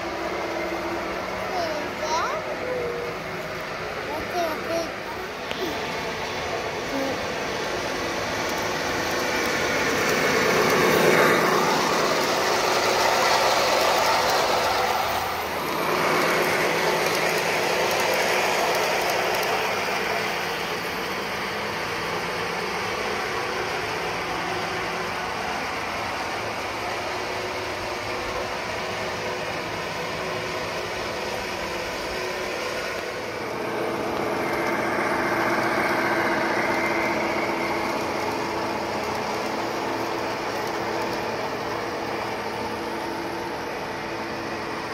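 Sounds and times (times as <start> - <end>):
diesel engine rumble sound effect: 0.0 - 44.9
model train wheels on rails: 0.0 - 44.9.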